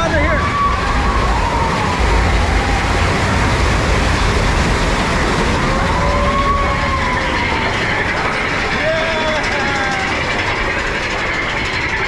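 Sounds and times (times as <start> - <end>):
long rising and falling wail: 0.0 - 10.6
roller coaster rumbling on track: 0.0 - 12.0.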